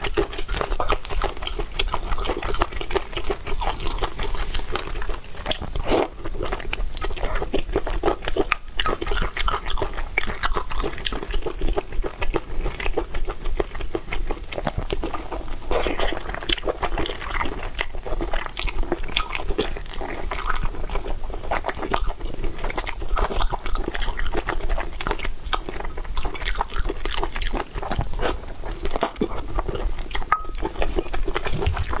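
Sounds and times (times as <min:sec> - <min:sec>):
person chewing and biting: 0:00.0 - 0:21.0, 0:22.7 - 0:32.0.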